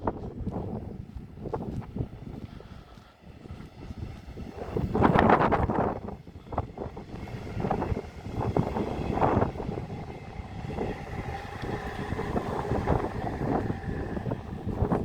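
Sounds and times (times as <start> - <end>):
faint steady vehicle drone: 0.0 - 15.0
wind buffeting microphone: 0.0 - 15.0.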